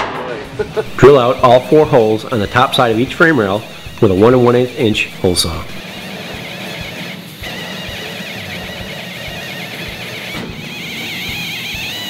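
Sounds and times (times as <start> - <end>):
hole saw squealing through steel: 0.9 - 12.0.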